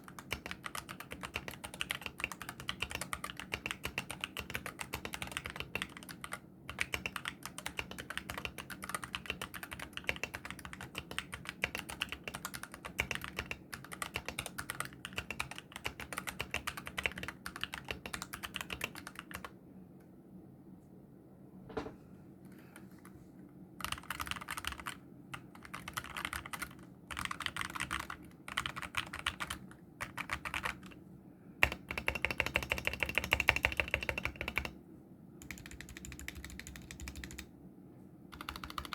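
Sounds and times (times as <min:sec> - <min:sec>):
mechanical keyboard typing: 0:00.0 - 0:19.5, 0:23.8 - 0:31.0, 0:31.6 - 0:34.8, 0:35.4 - 0:37.5, 0:38.3 - 0:38.9.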